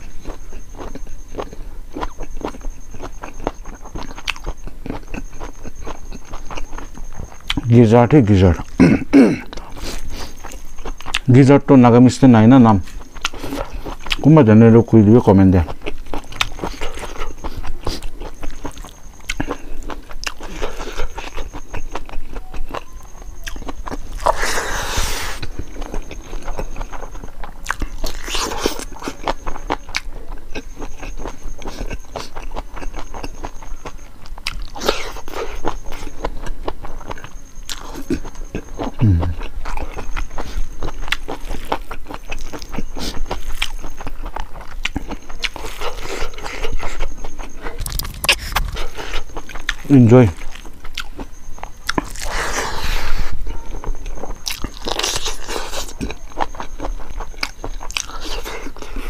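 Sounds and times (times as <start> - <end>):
chewing with lip smacks: 0.0 - 7.7, 9.4 - 11.4, 12.6 - 14.7, 15.5 - 59.0.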